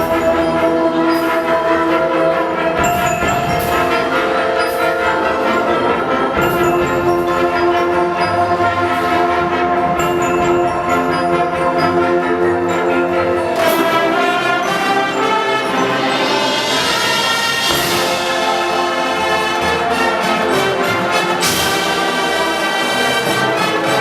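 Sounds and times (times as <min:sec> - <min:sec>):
brass chords: 0:00.0 - 0:24.0.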